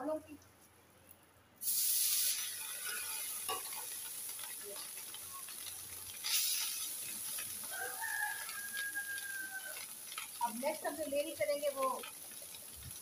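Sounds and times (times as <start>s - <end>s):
rice hissing in hot pan: 1.6s - 13.0s.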